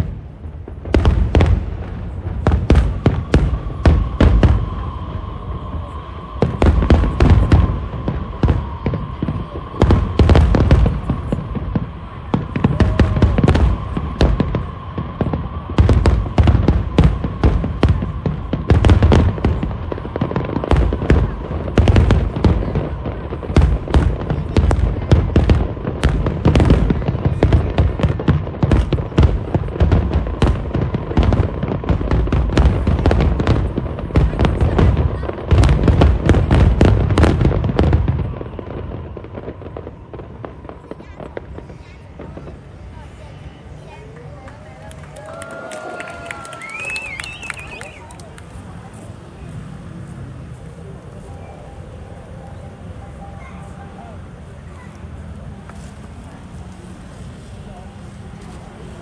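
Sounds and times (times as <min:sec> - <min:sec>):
fireworks bangs and booms: 0:00.0 - 0:59.0
fireworks crackling: 0:00.0 - 0:59.0.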